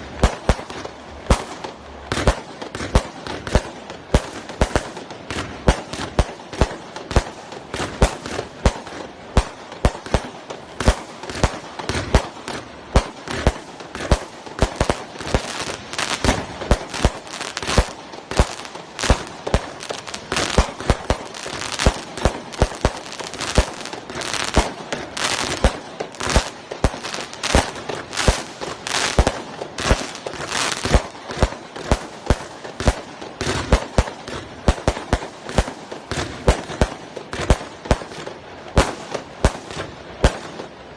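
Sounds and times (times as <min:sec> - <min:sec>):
firework cake firing shots: 0:00.0 - 0:40.8.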